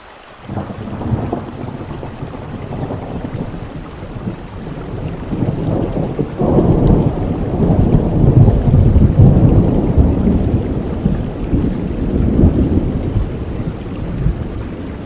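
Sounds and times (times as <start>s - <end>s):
steady rain: 0.0s - 15.0s
thunder rolling: 0.5s - 15.0s.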